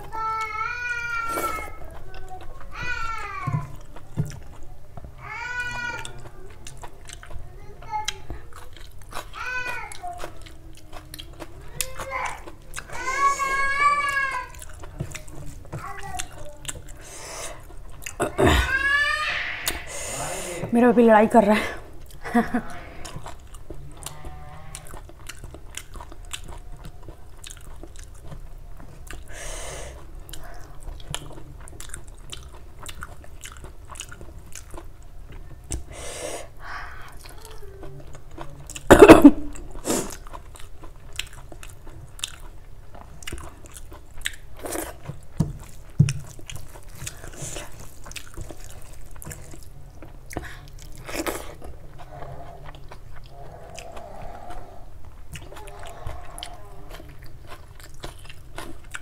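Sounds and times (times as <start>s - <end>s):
person chewing with wet smacking: 0.0s - 19.9s, 21.9s - 59.0s.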